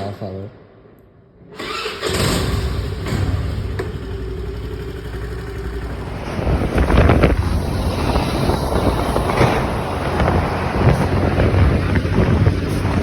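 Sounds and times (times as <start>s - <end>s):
vehicle engine rumbling: 1.6s - 13.0s.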